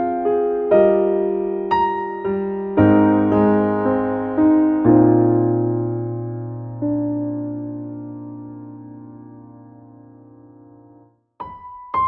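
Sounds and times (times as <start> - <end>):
soft piano chord: 0.0 - 12.0.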